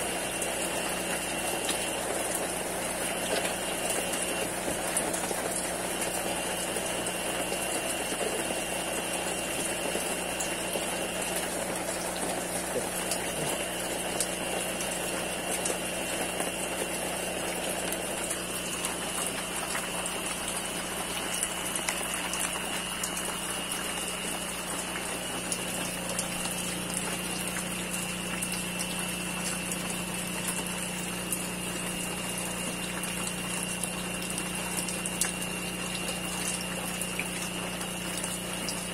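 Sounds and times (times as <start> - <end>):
electric water pump humming: 0.0 - 38.9
water pouring and splashing: 0.0 - 38.9.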